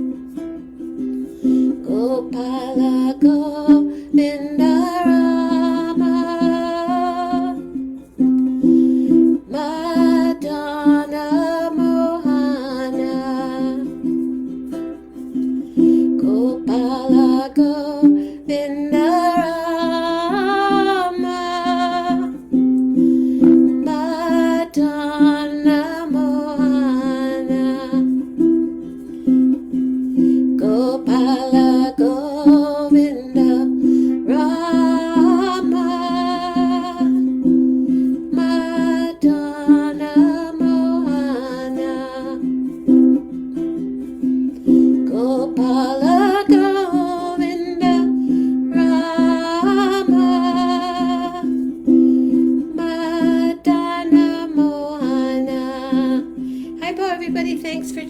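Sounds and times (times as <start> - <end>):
instrumental accompaniment: 0.0 - 58.0.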